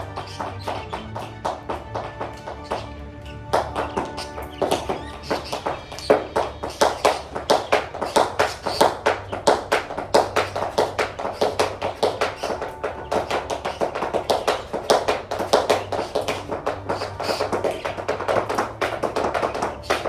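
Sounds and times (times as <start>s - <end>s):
toe tapping: 0.0s - 20.0s.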